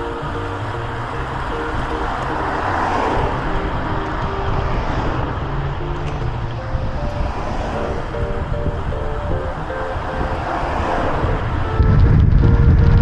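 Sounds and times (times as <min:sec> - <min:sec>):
rushing wind: 0:00.0 - 0:13.0.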